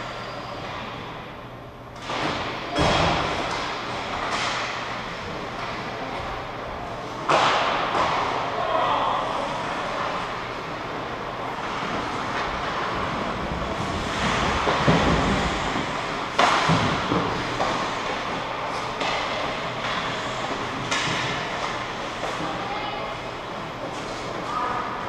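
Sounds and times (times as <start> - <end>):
ice hockey game din: 2.0 - 25.0.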